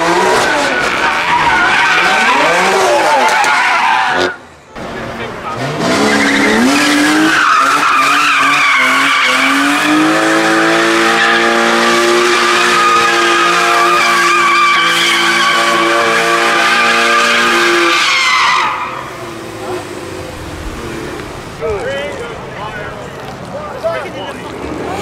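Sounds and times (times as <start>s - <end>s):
car engine revving high: 0.0s - 21.6s
tyres screeching: 0.2s - 4.4s, 5.5s - 23.5s.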